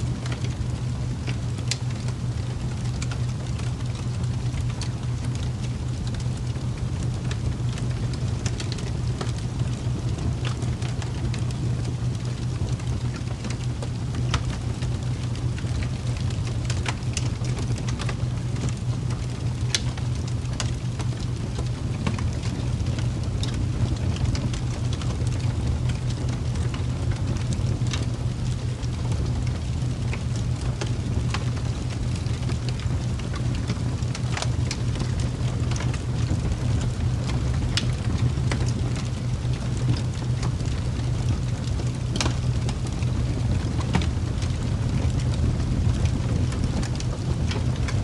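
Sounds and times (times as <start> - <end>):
constant low hum: 0.0 - 48.0
crackles and ticks: 0.0 - 48.0.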